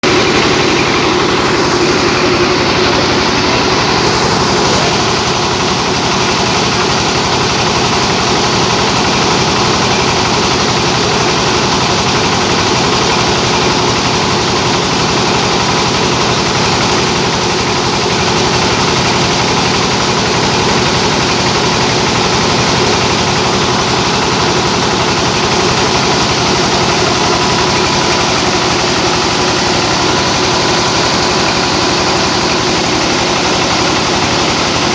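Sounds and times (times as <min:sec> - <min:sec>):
rice milling machine running: 0:00.0 - 0:34.9.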